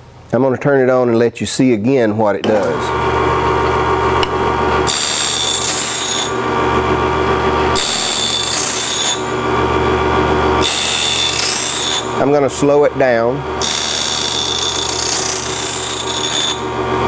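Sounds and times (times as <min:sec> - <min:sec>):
motors humming: 0:02.5 - 0:17.0.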